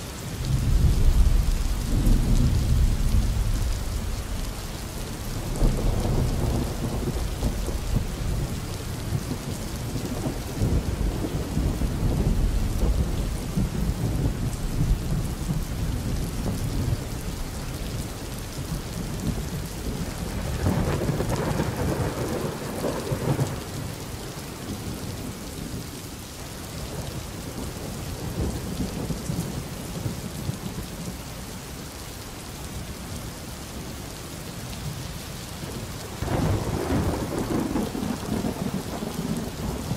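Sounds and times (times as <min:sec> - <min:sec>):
steady rain: 0:00.0 - 0:39.9
low rolling thunder: 0:00.3 - 0:25.9, 0:26.9 - 0:31.1, 0:34.8 - 0:39.9.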